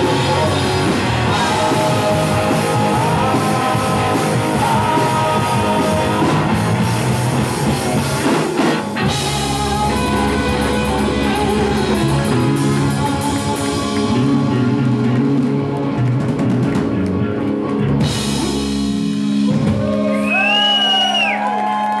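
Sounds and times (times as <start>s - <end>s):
distorted electric guitars: 0.0s - 20.4s
drum kit: 0.0s - 21.5s
bass guitar: 0.0s - 22.0s.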